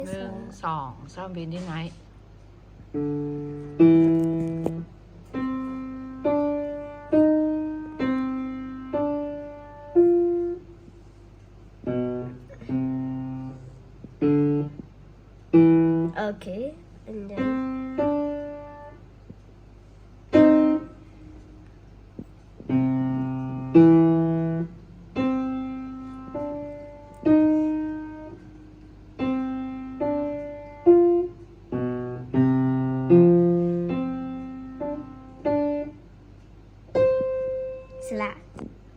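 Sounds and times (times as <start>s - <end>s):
slow piano melody: 2.8s - 16.3s, 17.2s - 19.3s, 20.2s - 38.9s.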